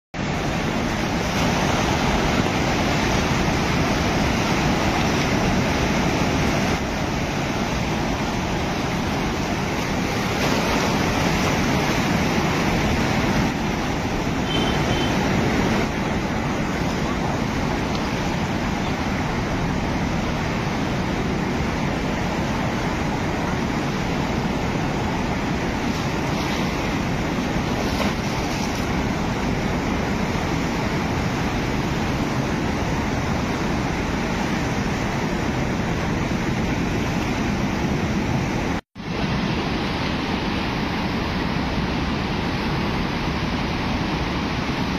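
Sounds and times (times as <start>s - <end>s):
floodwater rushing in river: 0.2s - 44.9s.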